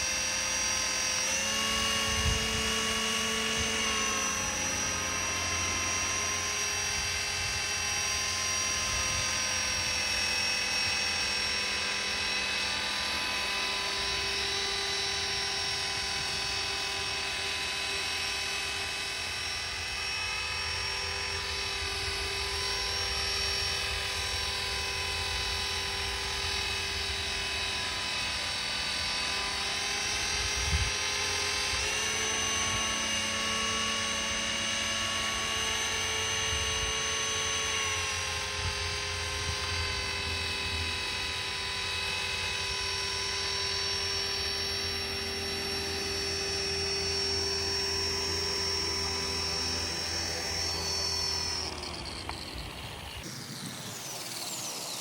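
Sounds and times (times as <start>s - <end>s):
electric helicopter whine: 0.0s - 55.0s.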